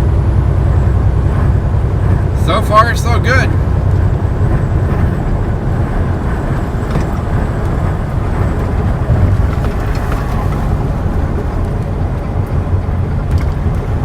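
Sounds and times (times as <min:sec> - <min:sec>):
truck engine drone: 0:00.0 - 0:14.0
tyre and road noise: 0:00.0 - 0:14.0.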